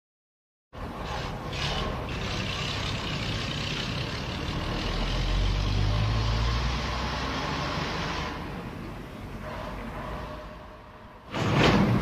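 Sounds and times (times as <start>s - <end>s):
tank engine rumbling: 0.8s - 12.0s.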